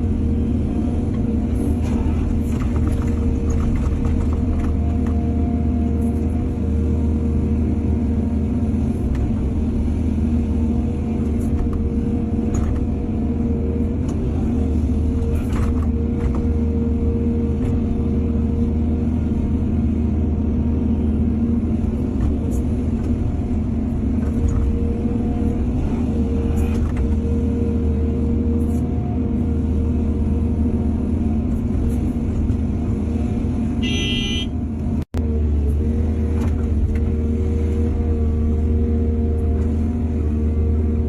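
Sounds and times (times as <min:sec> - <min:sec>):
constant whine: 0:00.0 - 0:41.0
excavator diesel engine rumble: 0:00.0 - 0:41.0.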